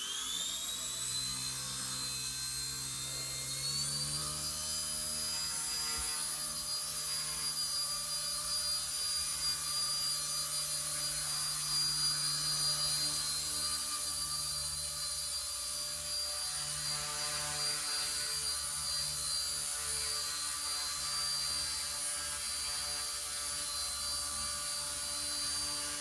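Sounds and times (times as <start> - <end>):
rc helicopter motor whine: 0.0 - 26.0.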